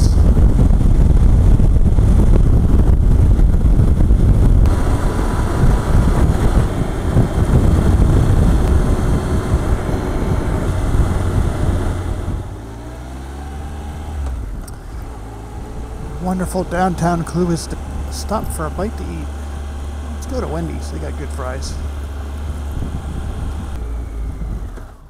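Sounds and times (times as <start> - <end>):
motorcycle cruising: 0.0 - 25.0
wind rush on microphone: 0.0 - 25.0.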